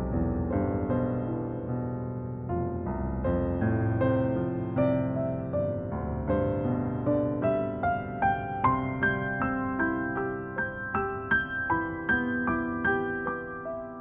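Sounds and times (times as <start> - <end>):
gentle slow piano music: 0.0 - 14.0.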